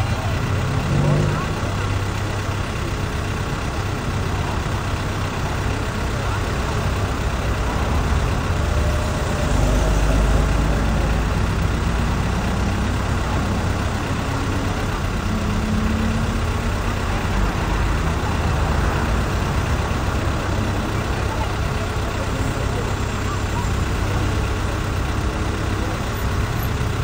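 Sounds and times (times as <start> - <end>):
low rumble of traffic: 0.0 - 27.0.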